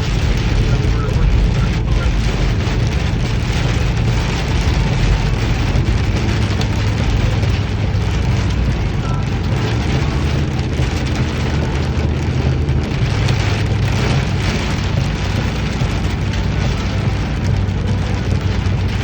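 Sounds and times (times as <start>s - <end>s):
low rumble: 0.0s - 19.0s
steady rain: 0.0s - 19.0s.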